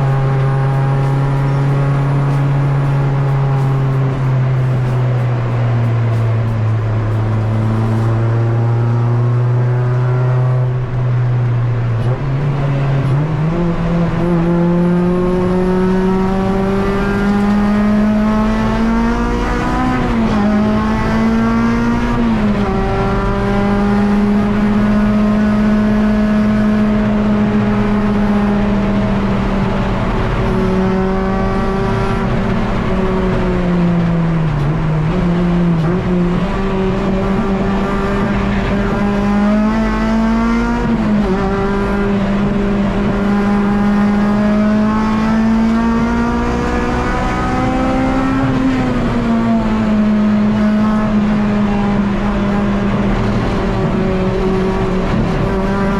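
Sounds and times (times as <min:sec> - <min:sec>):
race car engine at high revs: 0:00.0 - 0:55.9.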